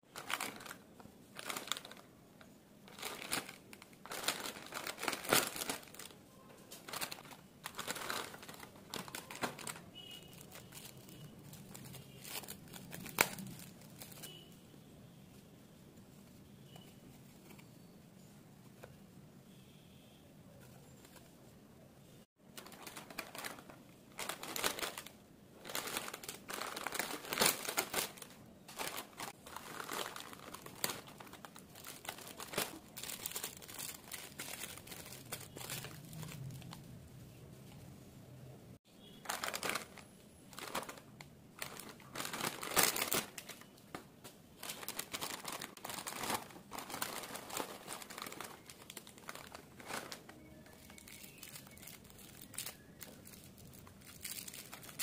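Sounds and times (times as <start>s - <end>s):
plastic wrappers crinkling: 0.0s - 14.6s, 22.4s - 36.9s, 39.0s - 55.0s.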